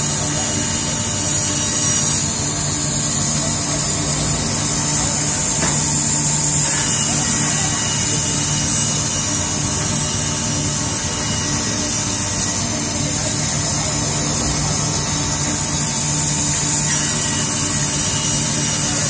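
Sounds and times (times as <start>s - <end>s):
band saw cutting wood: 0.0s - 19.0s.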